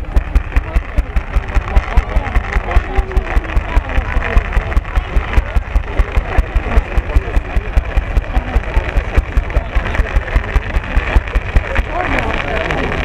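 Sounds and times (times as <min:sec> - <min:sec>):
crowd murmuring: 0:00.0 - 0:13.0
rapid clicking with thuds: 0:00.0 - 0:13.0.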